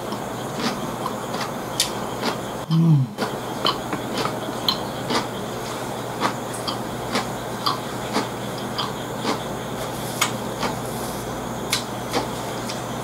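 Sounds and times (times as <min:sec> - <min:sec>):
low steady hum: 0:00.0 - 0:13.0
chewing crisp cucumber: 0:00.1 - 0:11.0.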